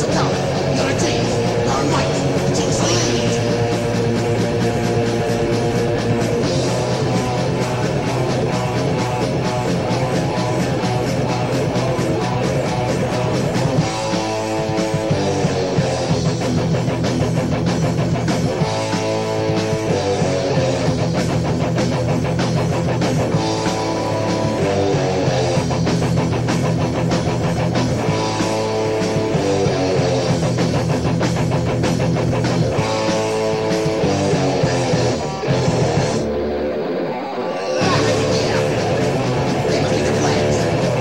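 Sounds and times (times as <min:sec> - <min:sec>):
drums at a steady beat: 0:00.0 - 0:37.0, 0:37.6 - 0:41.0
electric guitars: 0:00.0 - 0:41.0.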